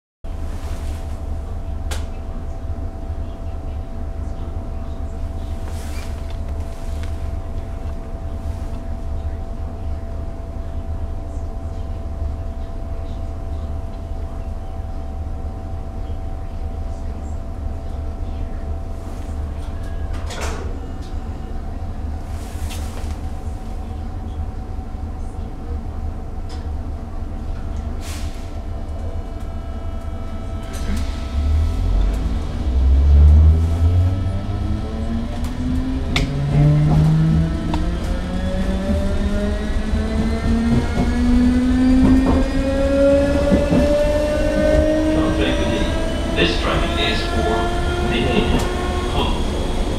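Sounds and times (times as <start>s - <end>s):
train low rumble: 0.2s - 49.9s.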